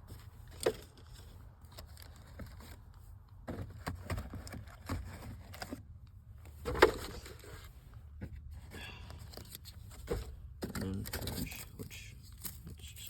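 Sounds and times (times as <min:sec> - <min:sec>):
small items rattling in glove box: 0:00.1 - 0:13.0.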